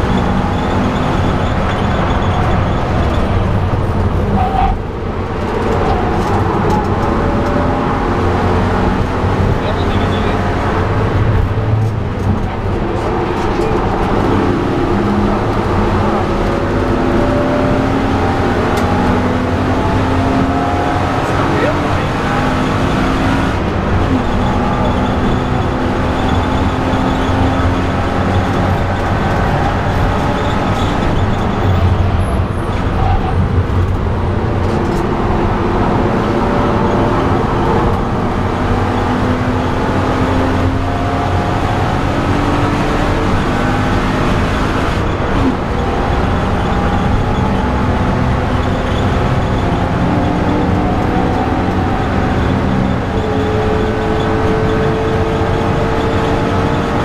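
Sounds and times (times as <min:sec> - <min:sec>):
car engine accelerating: 0:00.0 - 0:57.0
tyre and road noise: 0:00.0 - 0:57.0.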